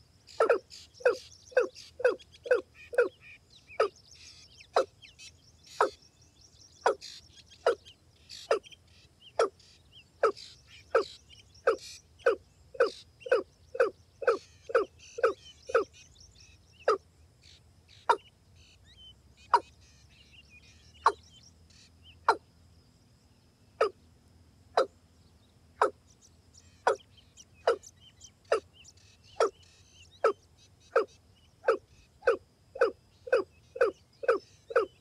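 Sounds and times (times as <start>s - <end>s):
rail bird calling: 0.0s - 17.0s, 17.9s - 22.5s, 25.8s - 35.0s.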